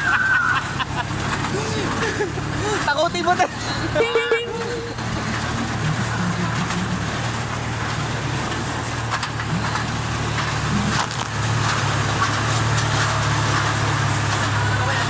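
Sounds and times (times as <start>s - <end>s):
ride car rolling on track: 0.0s - 15.0s
rattling: 0.8s - 15.0s.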